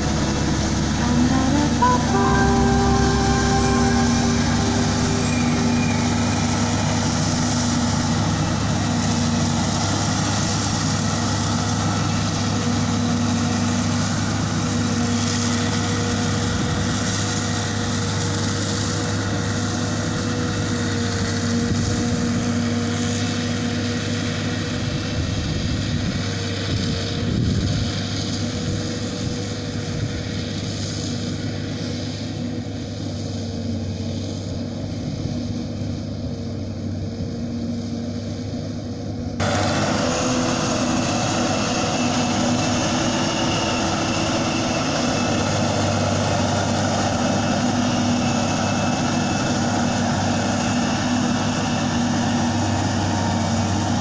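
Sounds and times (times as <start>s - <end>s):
forage harvester engine drone: 0.0s - 54.0s.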